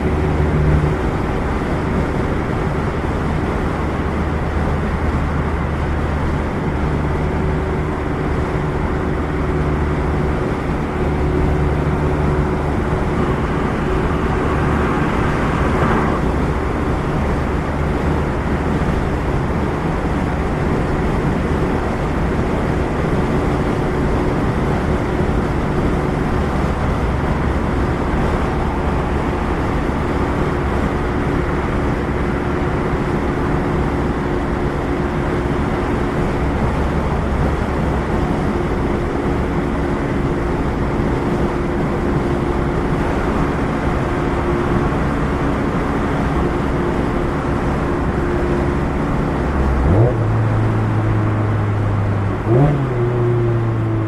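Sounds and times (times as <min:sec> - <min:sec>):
car engine cruising: 0:00.0 - 0:54.0
road and wind noise: 0:00.0 - 0:54.0.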